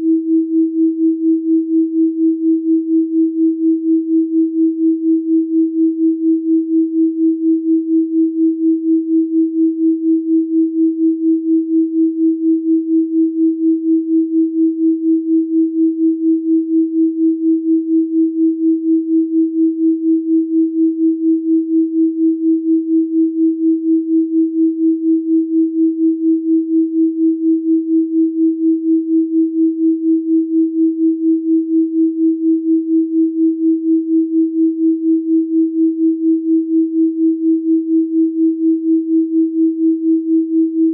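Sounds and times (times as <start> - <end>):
pulsing sine tone: 0.0 - 40.9.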